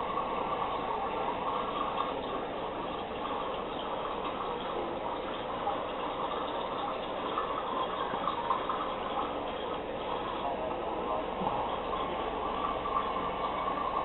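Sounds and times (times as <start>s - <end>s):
water splashing and bubbling: 0.0s - 14.0s.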